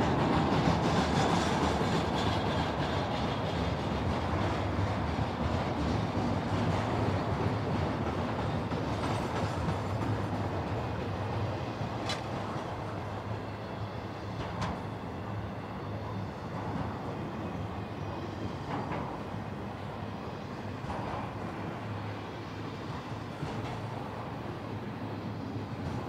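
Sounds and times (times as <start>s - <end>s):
freight train rolling past: 0.0s - 26.0s
sharp clicks of train wheels: 0.0s - 26.0s.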